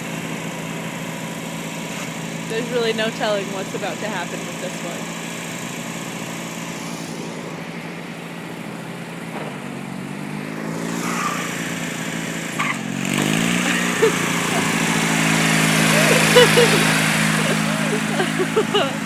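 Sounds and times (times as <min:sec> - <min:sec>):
lawn mower engine revving: 0:00.0 - 0:19.0.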